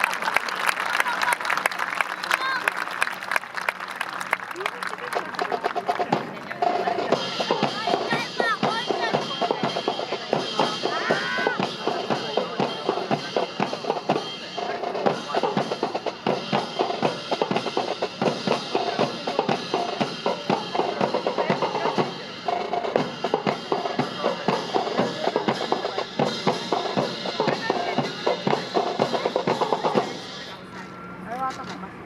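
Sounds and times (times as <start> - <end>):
drum-led marching band music: 2.2 - 31.8.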